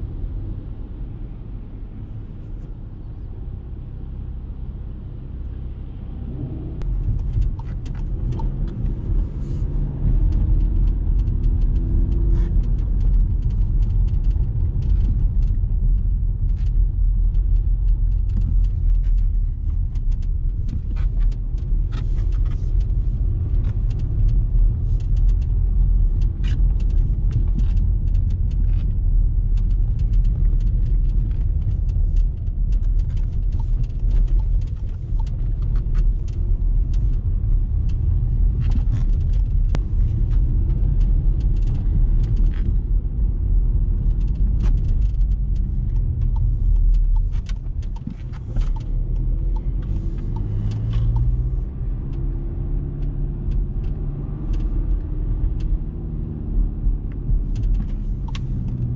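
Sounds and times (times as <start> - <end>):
car engine and road rumble: 0.0 - 58.9
tyres and suspension rattling: 6.2 - 58.9.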